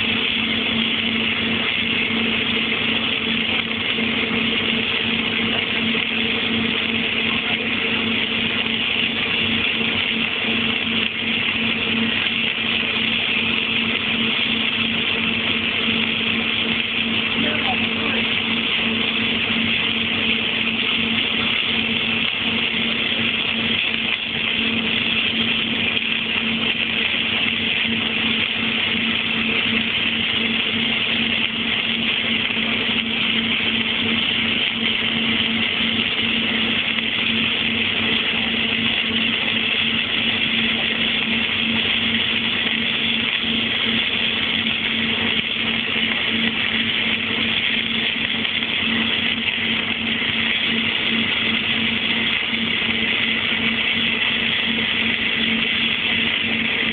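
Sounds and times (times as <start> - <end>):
arc welding hiss: 0.0 - 56.9
welder hum: 0.0 - 56.9.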